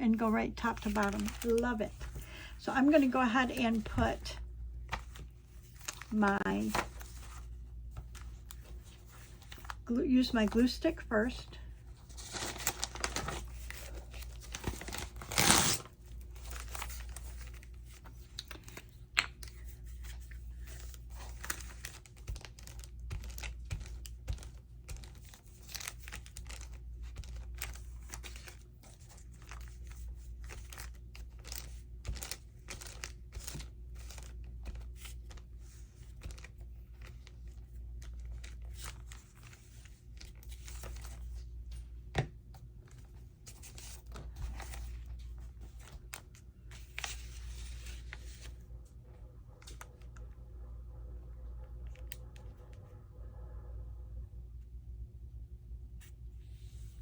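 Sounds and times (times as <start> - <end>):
paper rustling: 0.2 - 11.0, 11.7 - 41.8, 42.8 - 48.7.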